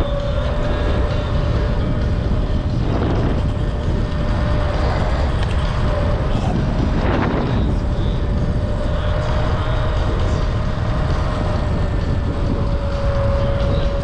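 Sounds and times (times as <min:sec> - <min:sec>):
electric motor whine: 0:00.0 - 0:14.0
wind buffeting microphone: 0:00.0 - 0:14.0.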